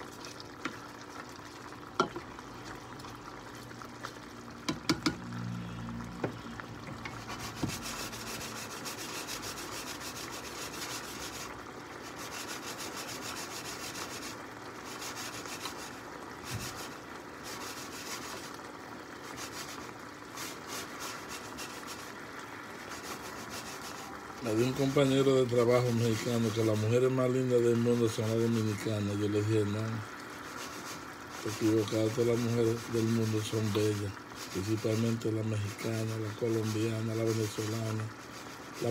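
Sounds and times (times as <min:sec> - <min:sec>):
sauce simmering in a frying pan: 0:00.0 - 0:38.9.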